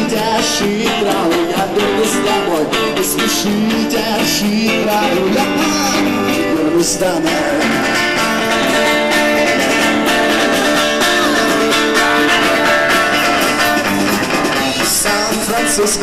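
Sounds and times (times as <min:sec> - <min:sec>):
drums: 0:00.0 - 0:16.0
electric guitar: 0:00.0 - 0:16.0.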